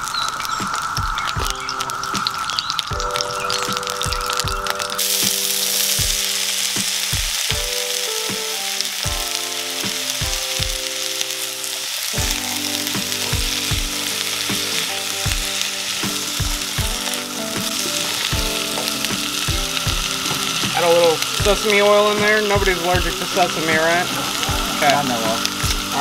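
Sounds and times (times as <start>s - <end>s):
vegetables sizzling in a wok: 0.0s - 26.0s
background music with steady beat: 0.5s - 11.4s, 12.1s - 26.0s.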